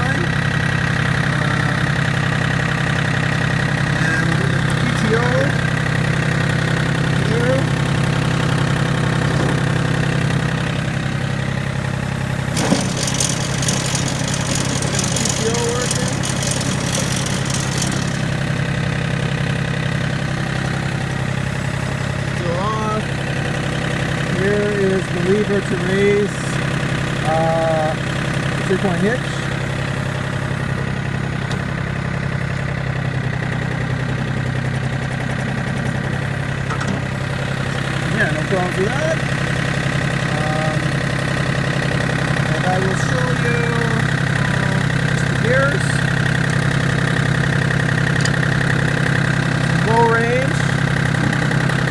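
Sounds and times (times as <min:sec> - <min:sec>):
tractor diesel engine idling: 0:00.0 - 0:51.9.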